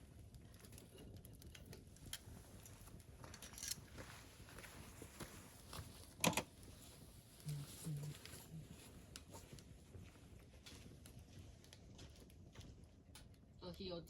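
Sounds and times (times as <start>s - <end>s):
campfire crackling: 0.0s - 14.0s
fire popping: 0.0s - 14.0s.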